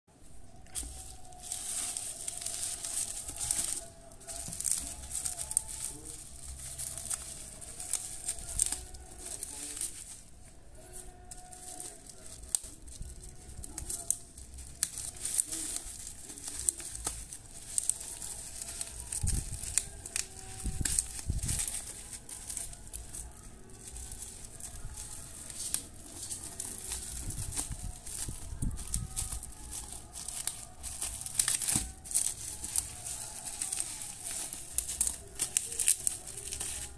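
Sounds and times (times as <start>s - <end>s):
bubble wrap crinkling: 0.1s - 36.9s.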